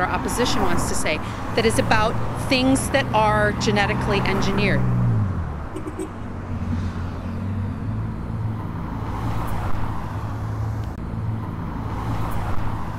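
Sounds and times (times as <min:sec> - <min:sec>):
low engine hum: 0:00.0 - 0:12.9
road traffic passing: 0:00.0 - 0:12.9.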